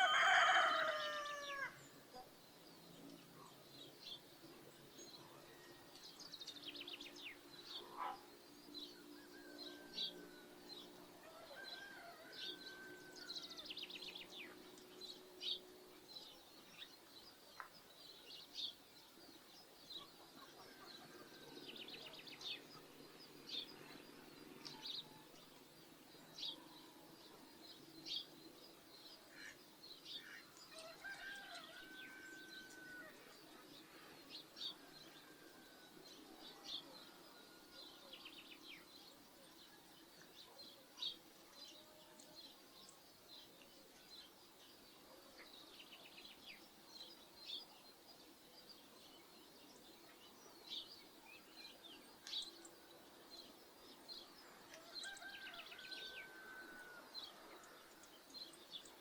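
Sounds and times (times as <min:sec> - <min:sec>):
small birds chirping: 0:00.3 - 0:11.1, 0:13.0 - 0:55.6.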